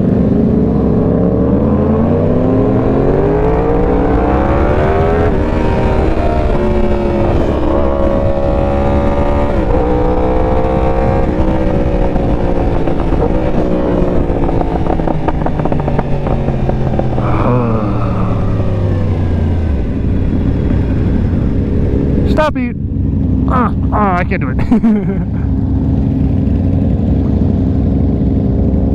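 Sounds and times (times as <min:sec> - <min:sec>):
motorcycle engine revving: 0:00.0 - 0:28.9
wind rush on microphone: 0:00.0 - 0:28.9
exhaust crackles: 0:02.1 - 0:28.8.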